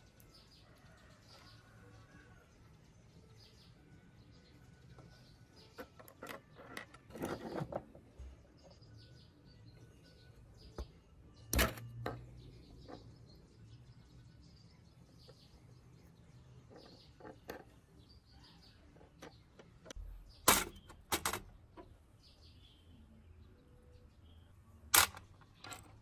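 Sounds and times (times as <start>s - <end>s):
faint birdsong: 0.0s - 26.0s.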